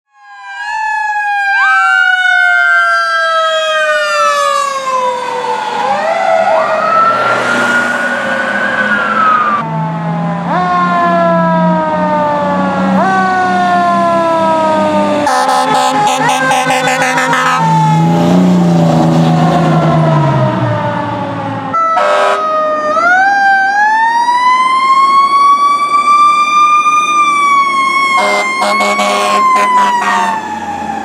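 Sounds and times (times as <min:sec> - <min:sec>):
fire truck sirens wailing: 0:00.1 - 0:31.0
siren rising and falling: 0:00.1 - 0:31.0.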